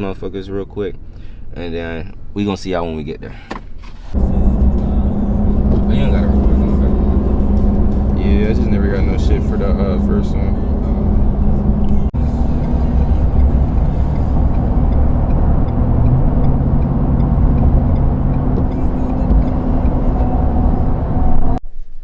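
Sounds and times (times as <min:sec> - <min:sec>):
car engine and road rumble: 0:00.0 - 0:21.6.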